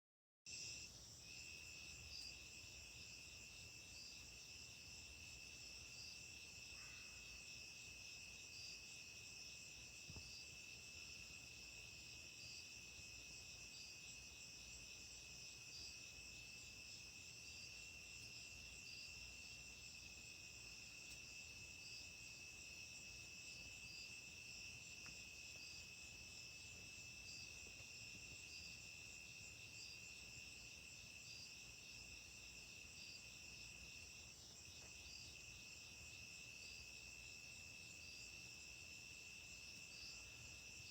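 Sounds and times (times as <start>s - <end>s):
soft insect chirp: 0.5s - 40.9s.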